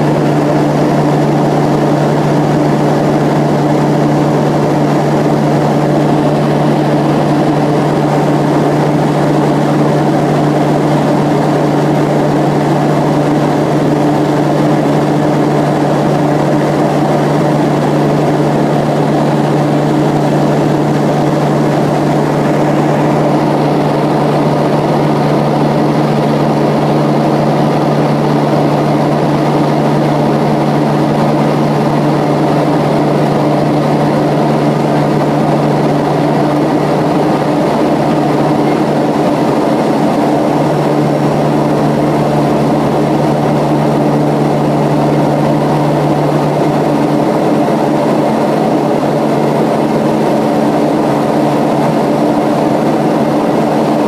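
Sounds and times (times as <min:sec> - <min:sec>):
propeller airplane engines humming: 0:00.0 - 0:54.0.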